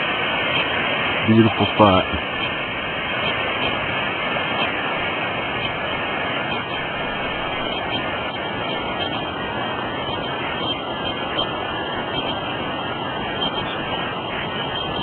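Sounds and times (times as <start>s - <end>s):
creek water rushing over rocks: 0.0s - 15.0s.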